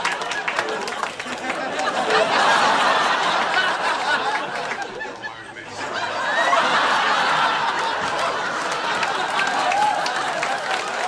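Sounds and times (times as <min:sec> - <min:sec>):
room full of people laughing: 0:00.0 - 0:11.0.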